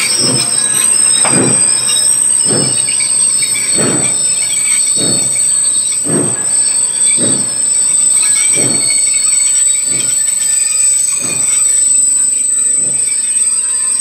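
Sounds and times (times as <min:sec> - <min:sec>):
high-pitched squeal: 0:00.0 - 0:14.0
steam locomotive exhaust chuffs: 0:00.0 - 0:14.0.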